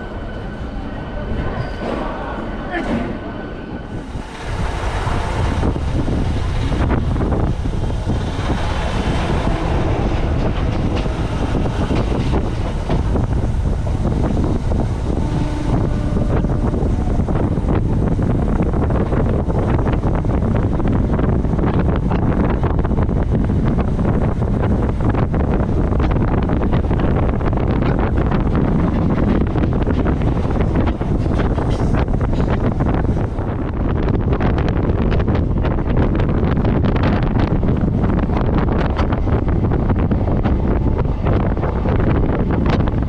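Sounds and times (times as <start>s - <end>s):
train rumbling on rails: 0.0s - 43.0s
wind buffeting microphone: 0.0s - 43.0s
wheels clattering on track: 4.1s - 43.0s.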